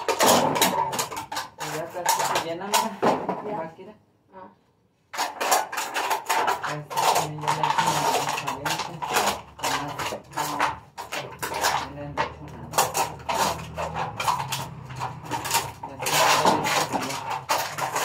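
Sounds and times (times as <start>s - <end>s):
cans and bottles clattering: 0.0s - 3.7s, 5.1s - 18.0s.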